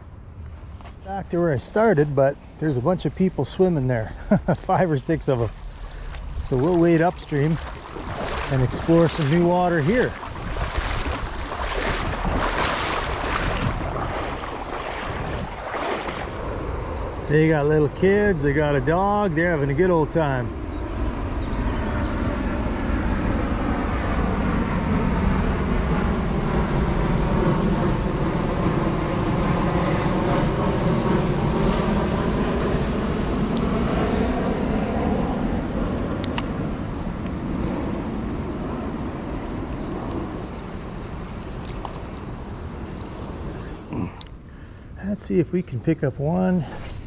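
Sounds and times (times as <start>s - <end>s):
airplane rumbling overhead: 0.0s - 47.0s.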